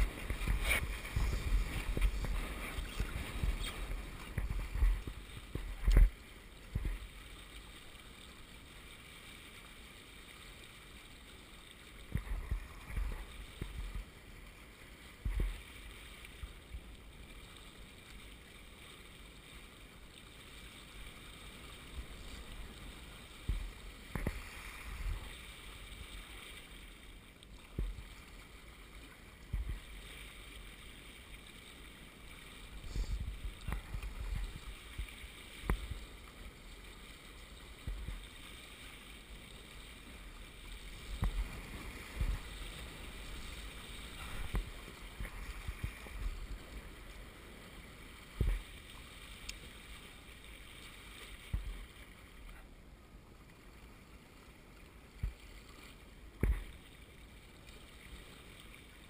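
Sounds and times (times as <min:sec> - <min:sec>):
water rushing along hulls: 0:00.0 - 0:59.0.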